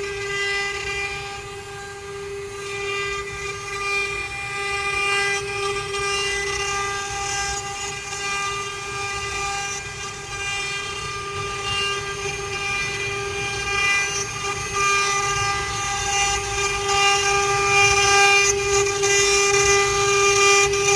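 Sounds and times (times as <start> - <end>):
router spindles whining: 0.0 - 20.9.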